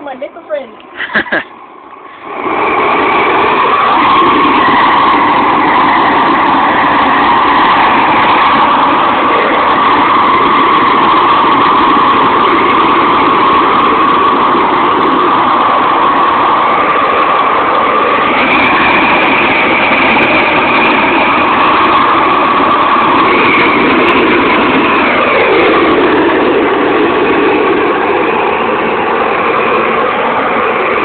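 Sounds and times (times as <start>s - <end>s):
propane torch roaring: 0.0s - 31.0s.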